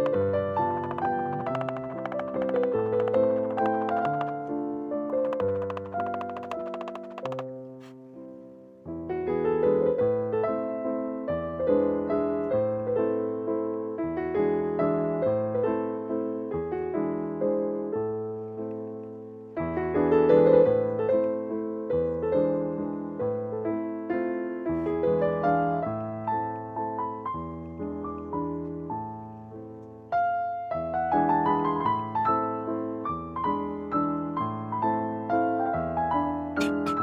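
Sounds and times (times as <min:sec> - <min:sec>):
piano music: 0:00.0 - 0:19.0, 0:19.8 - 0:37.0.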